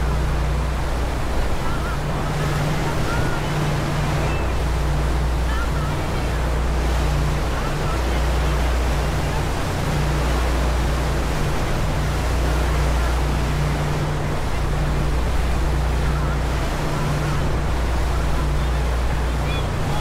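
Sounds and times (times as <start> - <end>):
ferry engines humming: 0.0 - 20.0
wake churning water: 0.0 - 20.0.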